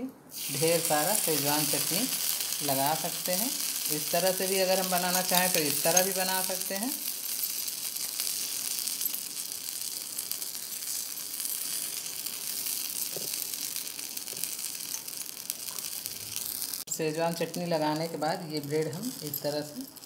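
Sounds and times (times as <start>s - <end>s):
bread sizzling in frying pan: 0.3s - 20.0s.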